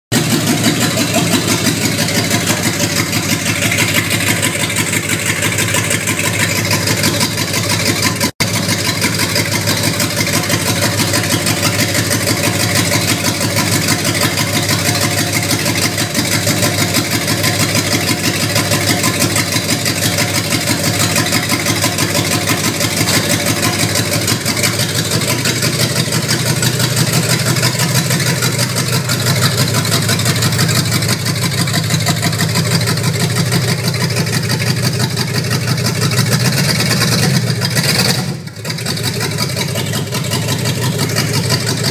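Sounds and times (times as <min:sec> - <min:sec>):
car engine running: 0:00.1 - 0:41.9.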